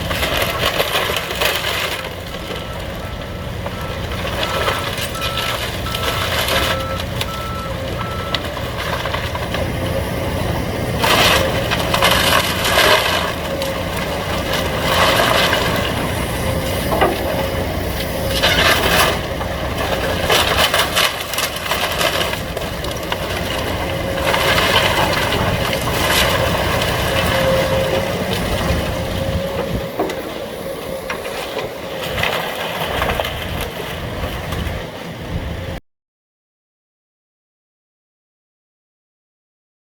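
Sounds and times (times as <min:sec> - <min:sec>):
debris crunching and cracking: 0:00.0 - 0:35.0
excavator diesel engine: 0:00.0 - 0:35.8.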